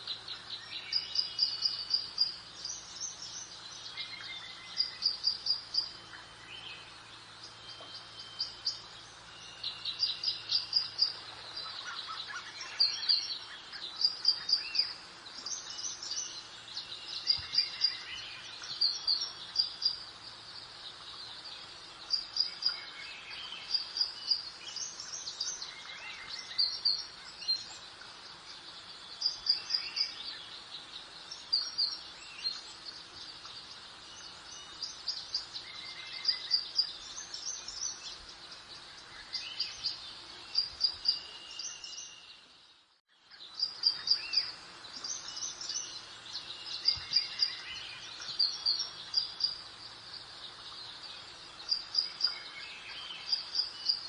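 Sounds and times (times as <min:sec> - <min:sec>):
soft background hiss: 0:00.0 - 0:54.0
songbirds chirping: 0:00.0 - 0:54.0.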